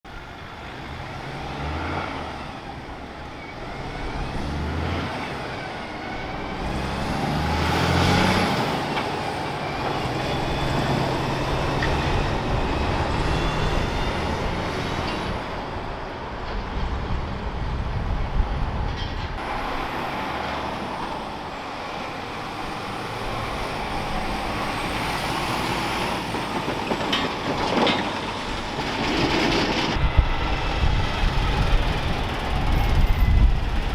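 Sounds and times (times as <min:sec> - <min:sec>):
diesel trucks driving past: 0:00.1 - 0:33.9.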